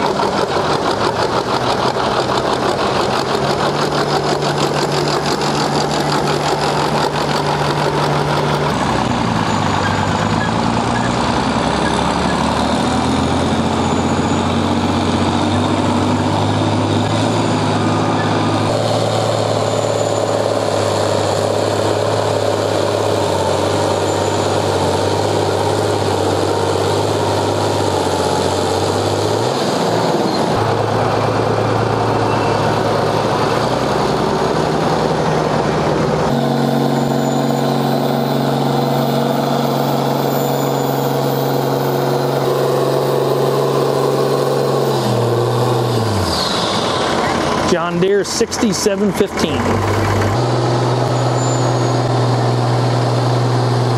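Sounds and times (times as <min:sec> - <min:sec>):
diesel tractor engines under load: 0:00.0 - 0:53.9.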